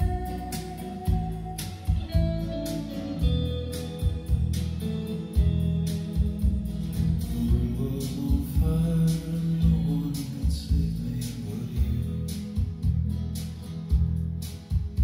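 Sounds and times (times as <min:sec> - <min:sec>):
guitar-led music over loudspeakers: 0:00.0 - 0:15.0.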